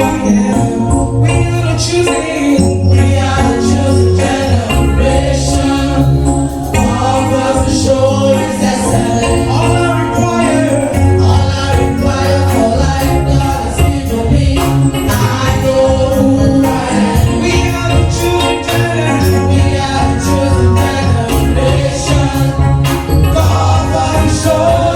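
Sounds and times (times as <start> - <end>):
band playing: 0.0 - 24.9
bass line: 0.0 - 24.9
jingling tambourine: 0.0 - 24.9
vocal group singing: 0.0 - 24.9.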